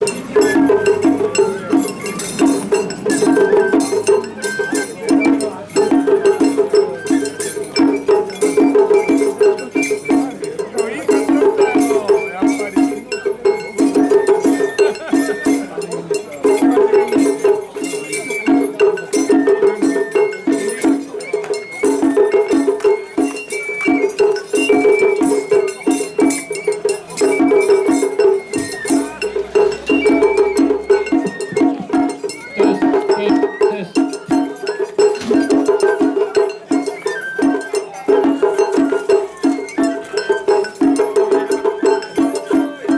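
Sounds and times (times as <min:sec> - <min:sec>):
bamboo flute melody: 0:00.0 - 0:42.9
drums: 0:00.0 - 0:42.9.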